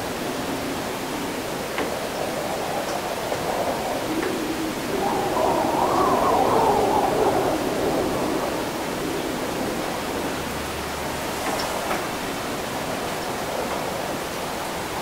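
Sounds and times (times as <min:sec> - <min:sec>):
windy wet city noise: 0:00.0 - 0:15.0.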